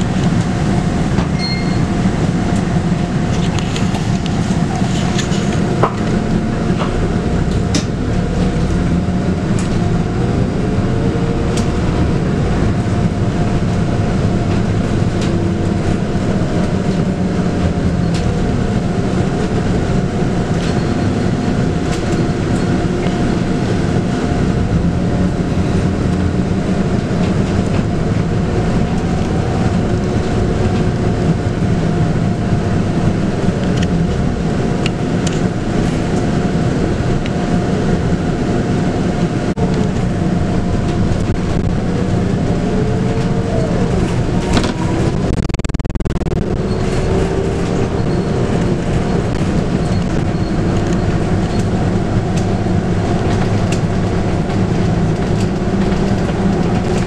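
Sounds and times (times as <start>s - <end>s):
bus diesel engine running: 0.0s - 57.0s
steady whine: 0.0s - 57.0s.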